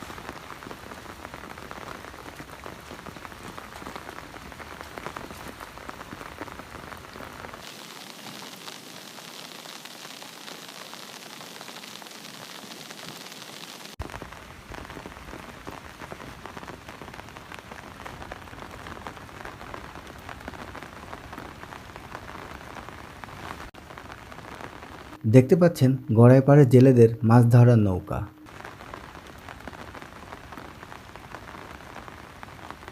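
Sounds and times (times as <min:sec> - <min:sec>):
rain pattering on surfaces: 0:00.0 - 0:32.9.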